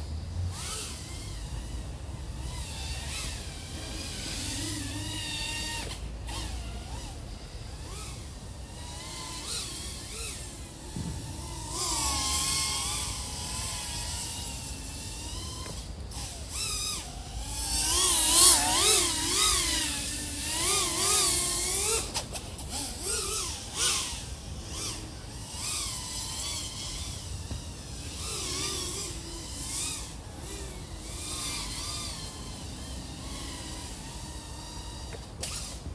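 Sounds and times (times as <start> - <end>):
drone motors whining: 0.0 - 35.9.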